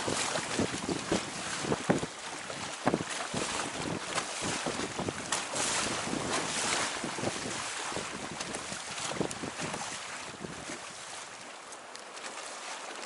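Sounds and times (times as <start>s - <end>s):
wind buffeting microphone: 0.0s - 11.0s
small waves slapping: 0.0s - 13.0s
water rushing along hull: 0.0s - 13.0s.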